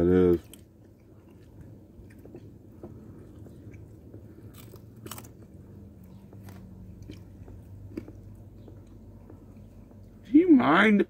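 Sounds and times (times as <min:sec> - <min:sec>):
people chewing food: 0:00.0 - 0:10.4
low steady hum: 0:00.0 - 0:11.0.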